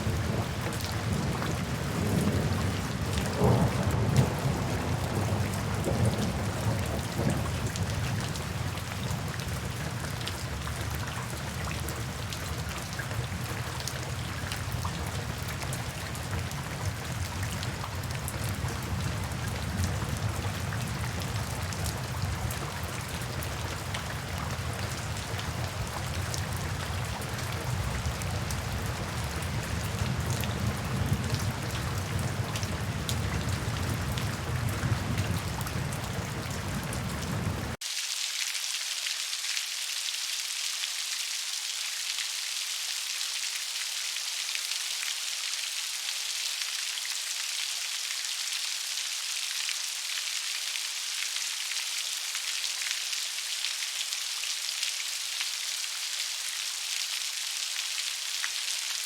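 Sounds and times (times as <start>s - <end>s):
rain drops ticking on a surface: 0.0s - 59.0s
rain hiss: 0.0s - 59.0s.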